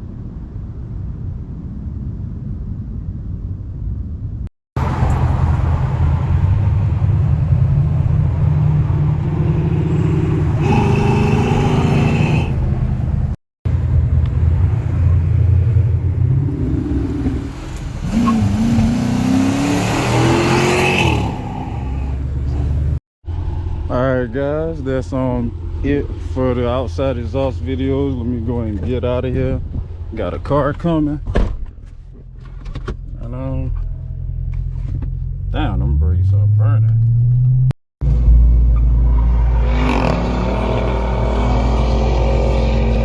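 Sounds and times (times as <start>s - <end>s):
loud car engine rumble: 4.8s - 30.8s, 32.4s - 43.0s.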